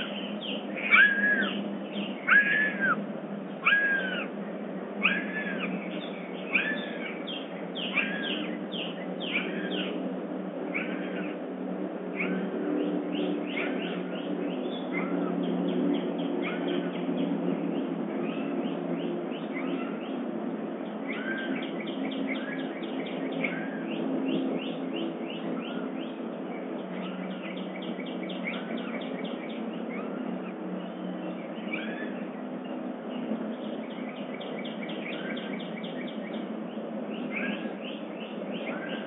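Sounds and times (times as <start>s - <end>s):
birds down-slurred chirps: 0.0s - 11.5s, 12.1s - 39.0s
steady low hum: 0.0s - 39.0s.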